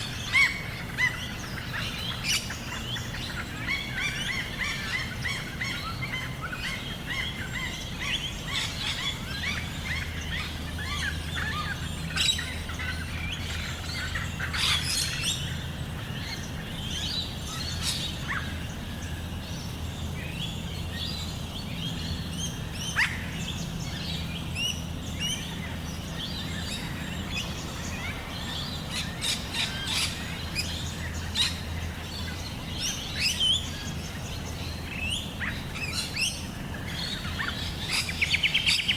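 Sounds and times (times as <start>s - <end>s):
birds chirping and calling: 0.0s - 38.9s
steady low hum: 0.0s - 38.9s.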